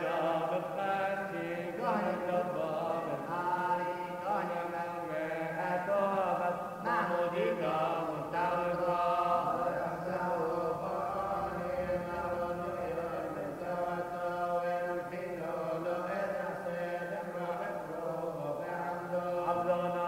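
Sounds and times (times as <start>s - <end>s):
voices chanting long held notes: 0.0s - 20.0s.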